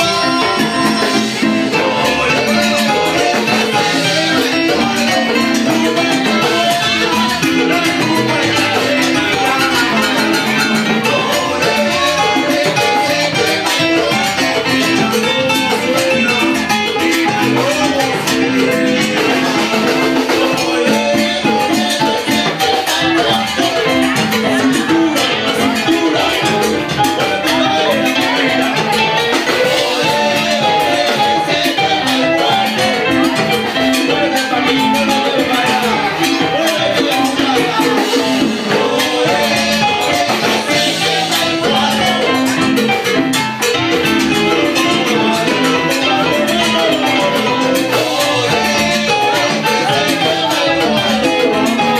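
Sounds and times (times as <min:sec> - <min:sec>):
band playing salsa music: 0:00.0 - 0:51.9.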